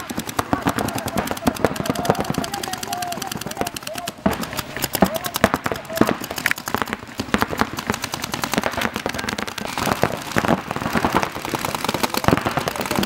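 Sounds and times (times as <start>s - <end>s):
paintball markers firing rapidly: 0.0s - 13.0s.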